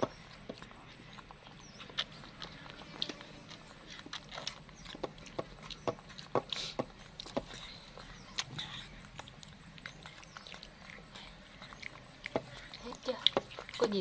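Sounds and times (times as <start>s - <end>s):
monkeys slurping milk: 0.0s - 14.0s.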